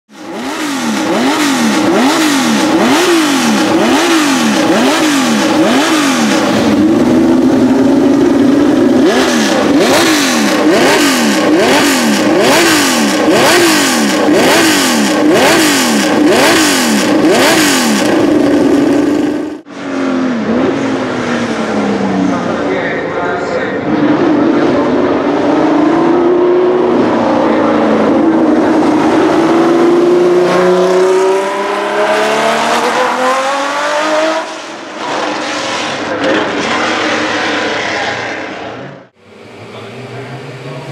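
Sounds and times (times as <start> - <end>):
racing car driving on track: 0.1 - 40.9
racing car engine revving: 0.1 - 40.9.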